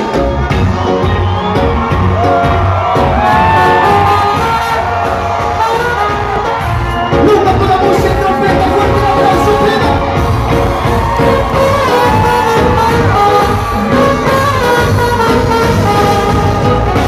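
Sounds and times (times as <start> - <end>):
crowd voices and cheering: 0.0 - 17.0
live reggae band playing: 0.0 - 17.0
trumpet: 1.8 - 17.0.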